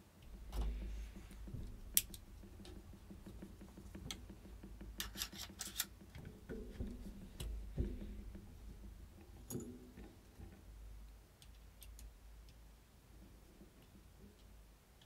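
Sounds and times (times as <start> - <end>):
hands rubbing and handling parts: 0.2 - 12.6.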